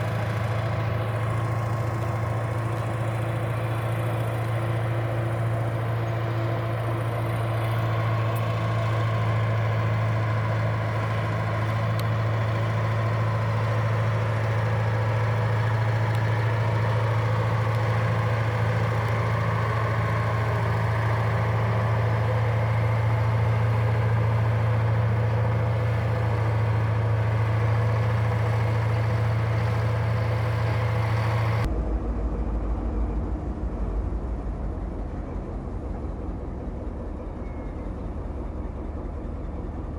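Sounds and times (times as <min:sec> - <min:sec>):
deep rough engine rumble: 0:00.0 - 0:39.9
engine humming steadily: 0:00.0 - 0:39.9.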